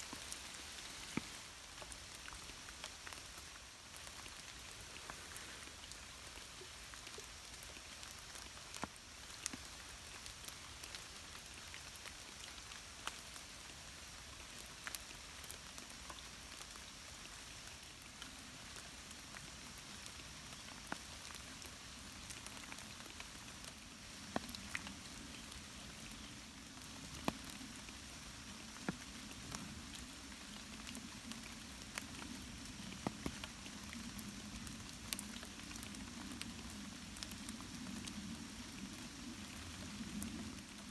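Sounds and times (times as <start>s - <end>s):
steady light rain: 0.0s - 40.9s.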